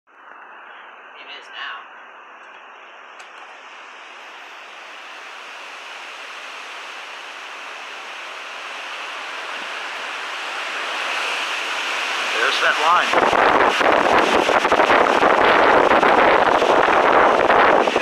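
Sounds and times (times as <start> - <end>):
storm wind rushing: 2.2 - 18.0.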